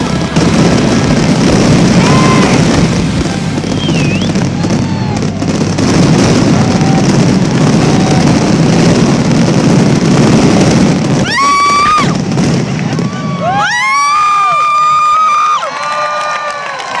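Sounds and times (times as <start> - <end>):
fireworks whistles: 0.0 - 15.3
fireworks bursts rumbling: 0.0 - 17.0.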